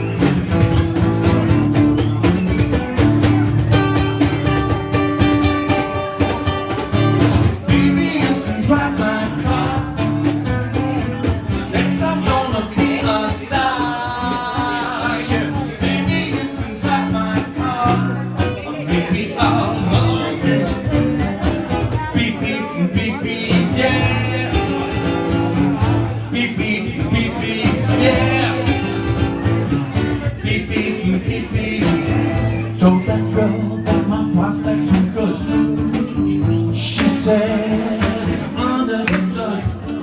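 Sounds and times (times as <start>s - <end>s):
guitar: 0.0s - 40.0s
steady drum beat: 0.0s - 40.0s
person singing: 7.6s - 40.0s.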